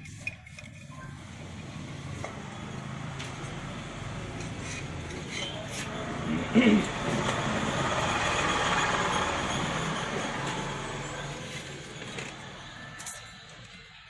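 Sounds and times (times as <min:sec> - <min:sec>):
motor vehicle passing: 0:01.0 - 0:13.0.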